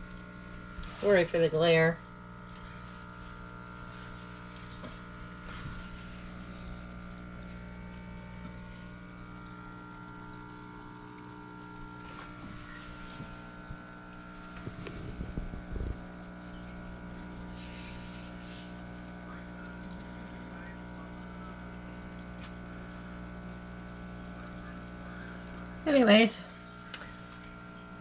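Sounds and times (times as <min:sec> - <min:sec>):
electric pump humming: 0:00.0 - 0:28.0
water pouring and bubbling: 0:00.0 - 0:28.0.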